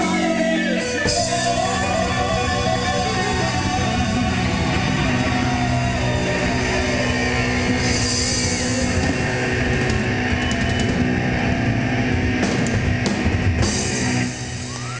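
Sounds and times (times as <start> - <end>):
distorted electric guitar: 0.0 - 15.0
drum kit: 0.0 - 15.0.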